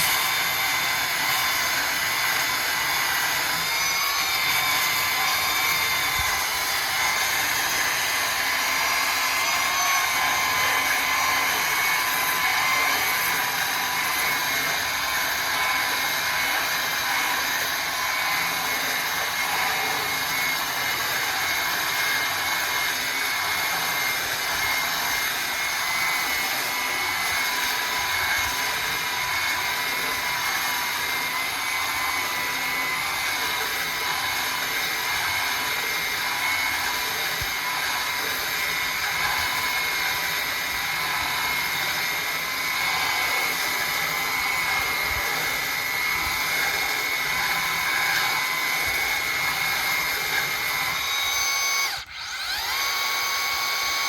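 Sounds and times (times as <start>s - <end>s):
belt sander running: 0.0s - 54.0s.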